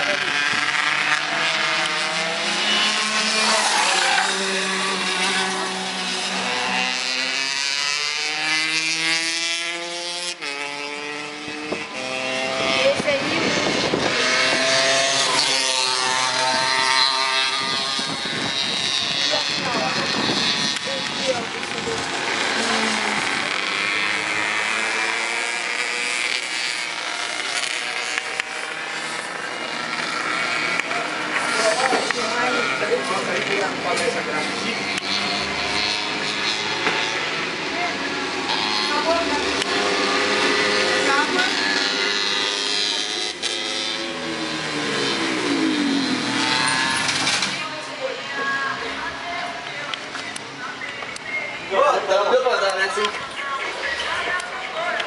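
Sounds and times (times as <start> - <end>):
go-kart engines revving: 0.0 - 55.0.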